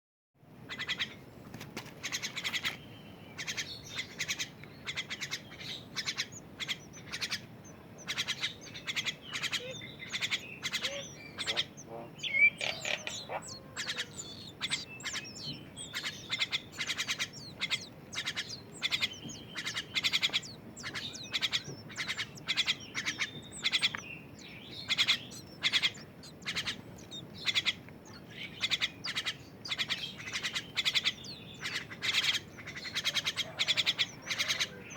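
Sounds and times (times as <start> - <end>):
bird chick chirping: 0.7 - 34.9.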